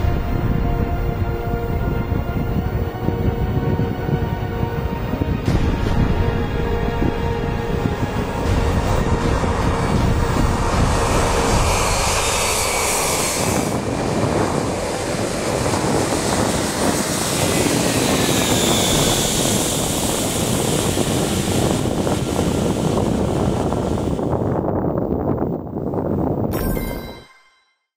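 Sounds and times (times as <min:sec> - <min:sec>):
loud jet engine noise: 0:00.0 - 0:24.9.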